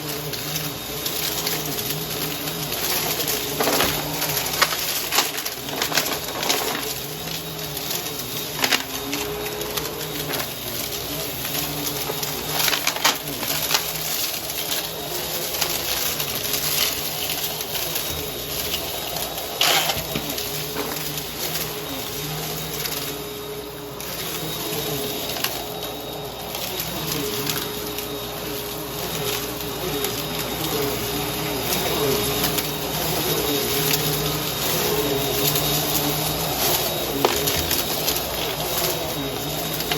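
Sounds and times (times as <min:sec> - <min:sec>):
vacuum cleaner humming: 0:00.0 - 0:39.9
debris clicking and crackling: 0:00.1 - 0:39.9.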